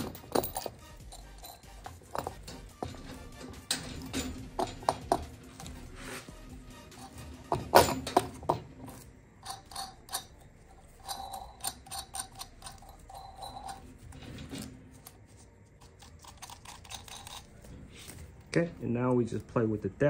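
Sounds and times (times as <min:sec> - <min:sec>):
metal clinks and knocks: 0:00.0 - 0:18.4.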